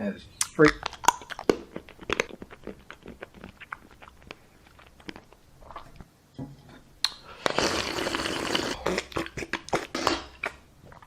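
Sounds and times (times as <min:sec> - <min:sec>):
crunching and wet chewing: 0:00.4 - 0:06.1, 0:07.4 - 0:11.0.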